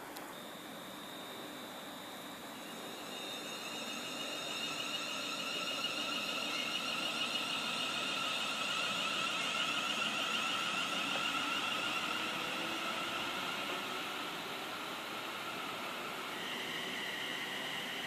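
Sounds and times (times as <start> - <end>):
train whine: 0.0 - 18.0.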